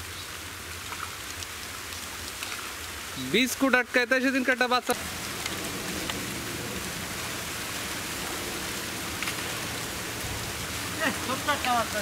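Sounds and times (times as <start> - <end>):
muddy pond water splashing: 0.0 - 12.0.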